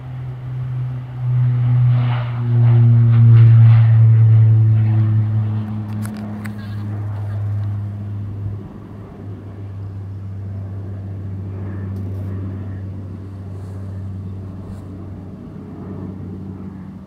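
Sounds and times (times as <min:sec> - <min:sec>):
turboprop plane droning: 0:00.0 - 0:17.0.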